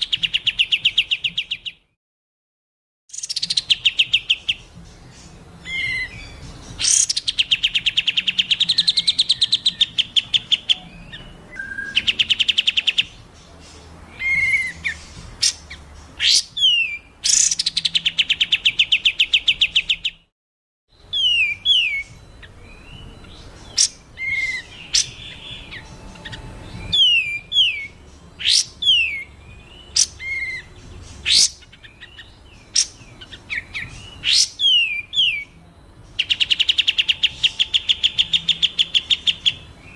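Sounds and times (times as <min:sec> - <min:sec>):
songbird trills: 0:00.0 - 0:01.8, 0:03.1 - 0:20.2, 0:20.9 - 0:39.9
whistled bird notes: 0:03.1 - 0:20.3, 0:20.9 - 0:39.9.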